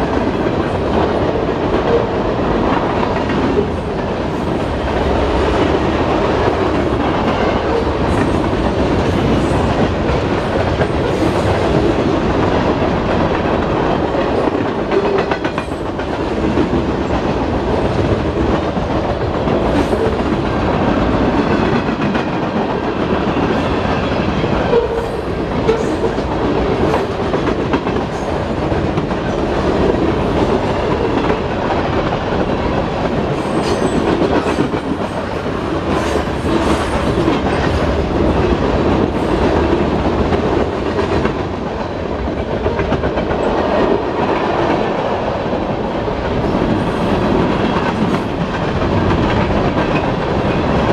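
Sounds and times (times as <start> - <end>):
freight train rumble: 0.0 - 50.9.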